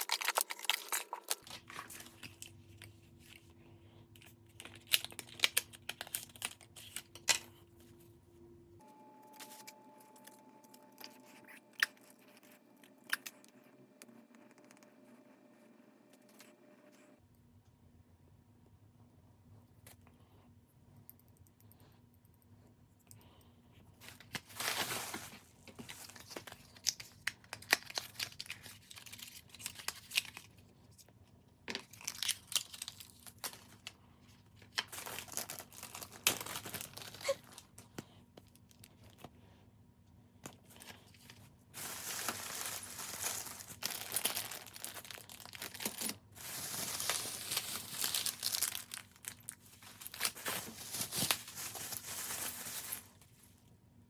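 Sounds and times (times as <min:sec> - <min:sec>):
crinkling and rustling handling noise: 0:00.0 - 0:14.3, 0:22.8 - 0:53.8.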